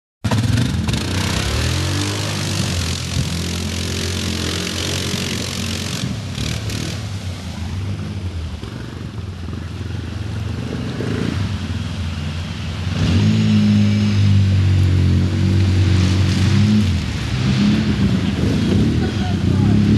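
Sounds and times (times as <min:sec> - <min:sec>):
quad bike engine running: 0:00.2 - 0:19.9
mud splashing: 0:00.3 - 0:19.9.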